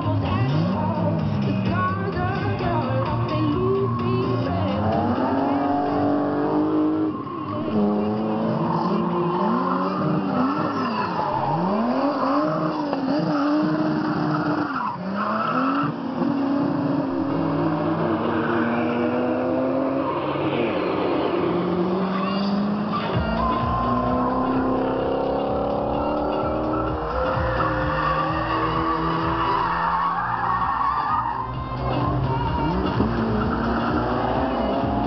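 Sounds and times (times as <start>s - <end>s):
car engine revving: 0.0s - 35.0s
tyres squealing on asphalt: 2.9s - 35.0s.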